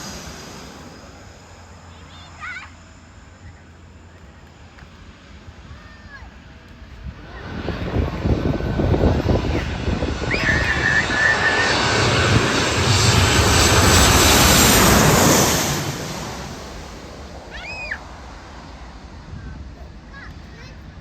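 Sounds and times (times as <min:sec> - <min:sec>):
airliner passing overhead: 0:00.0 - 0:21.0.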